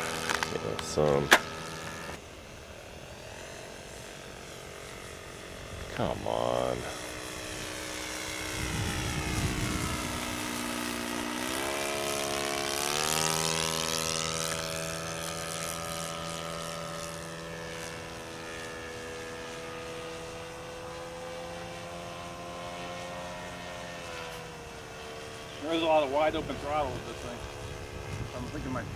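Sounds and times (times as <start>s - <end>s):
model airplane engine buzzing: 0.0s - 28.9s.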